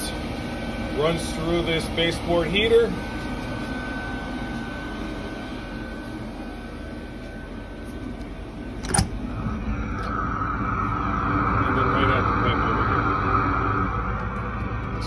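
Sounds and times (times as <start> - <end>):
air heater humming with whine: 0.0 - 15.0.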